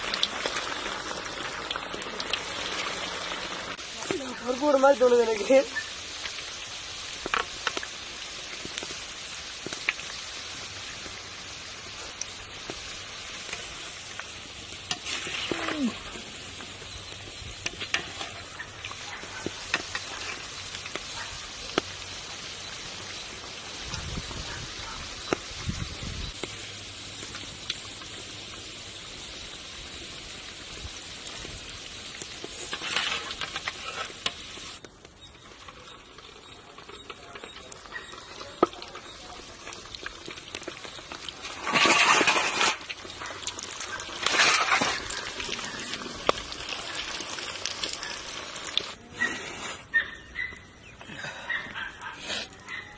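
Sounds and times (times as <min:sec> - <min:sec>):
oil sizzling: 0:00.0 - 0:49.0.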